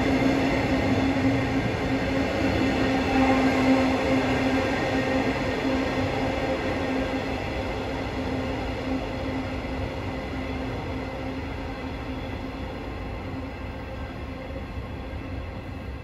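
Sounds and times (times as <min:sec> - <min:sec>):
electric train pulling away: 0:00.0 - 0:16.0
train motors humming: 0:00.0 - 0:16.0.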